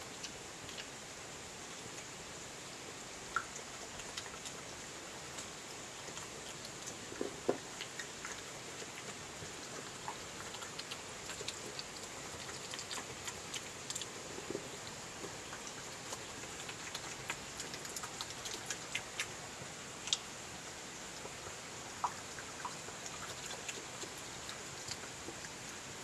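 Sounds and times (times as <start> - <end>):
animal chewing wet clicks: 0.0 - 1.0, 3.3 - 20.4, 21.0 - 25.9
steady hiss: 0.0 - 26.0.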